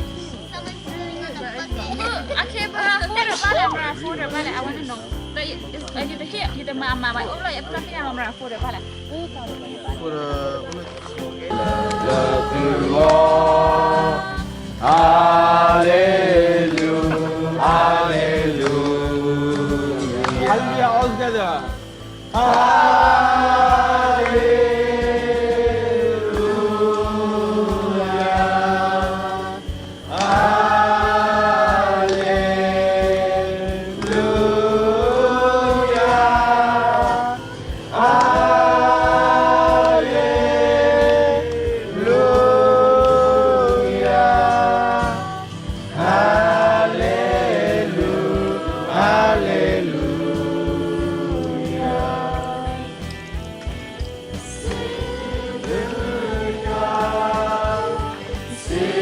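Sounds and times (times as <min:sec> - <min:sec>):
group singing gospel song: 0:00.0 - 0:01.0, 0:10.3 - 0:59.0.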